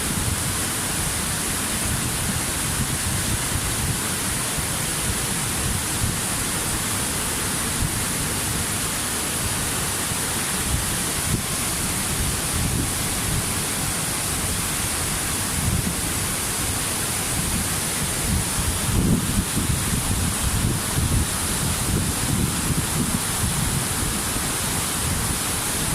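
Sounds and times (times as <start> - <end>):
rush of falling water: 0.0 - 25.9.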